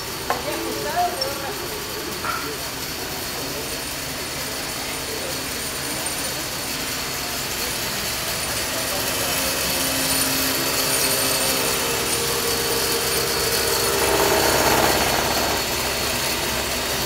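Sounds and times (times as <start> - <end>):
woodworking machine cutting wood: 0.0 - 17.0.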